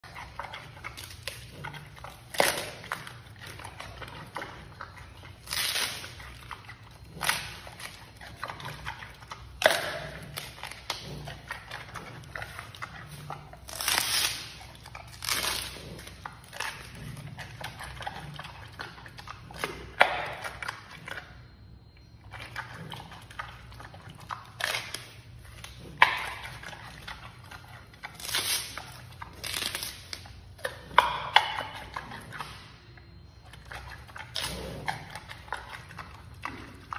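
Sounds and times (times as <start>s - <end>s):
panda crunching bamboo: 0.0s - 21.2s, 22.3s - 32.7s, 33.5s - 36.9s
soft crackling chewing: 0.0s - 36.9s.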